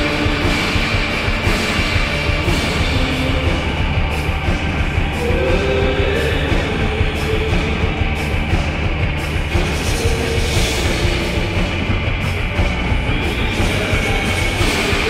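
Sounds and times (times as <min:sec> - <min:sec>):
person singing: 0:00.0 - 0:08.6, 0:09.6 - 0:11.5, 0:12.9 - 0:15.0
distorted rock song: 0:00.0 - 0:15.0.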